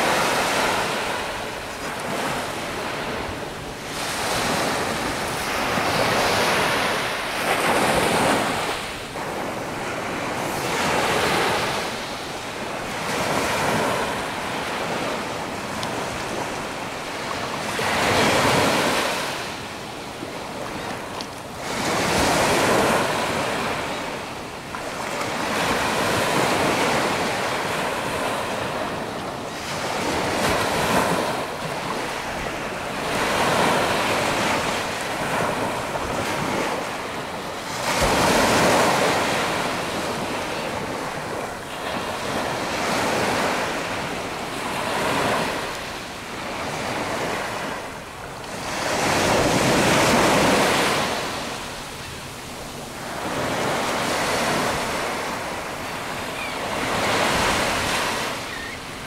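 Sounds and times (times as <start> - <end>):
surf washing on sandy beach: 0.0 - 59.0.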